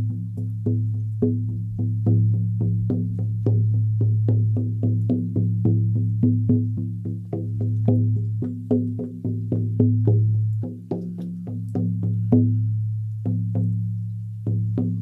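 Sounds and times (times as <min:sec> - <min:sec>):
frame drum booming: 0:00.0 - 0:13.8.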